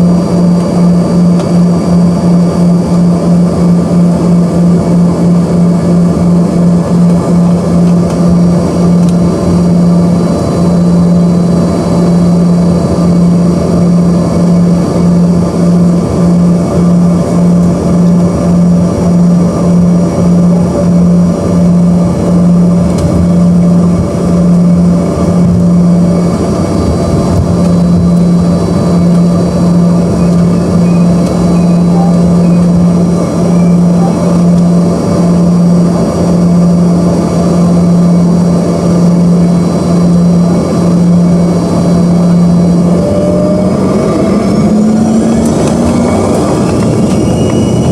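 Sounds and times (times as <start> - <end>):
jet engines droning in cabin: 0.0 - 47.9.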